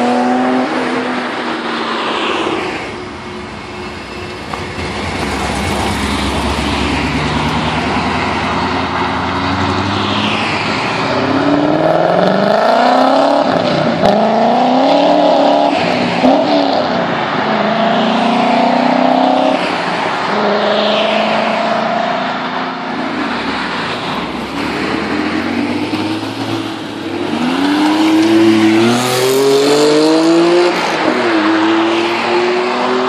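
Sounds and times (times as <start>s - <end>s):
sports car engines revving: 0.0s - 33.0s.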